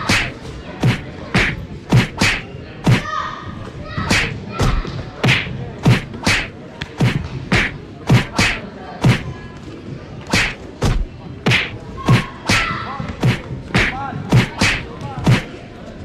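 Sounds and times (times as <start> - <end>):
kicks thudding on padding: 0.1 - 3.1, 4.1 - 9.2, 10.3 - 15.5.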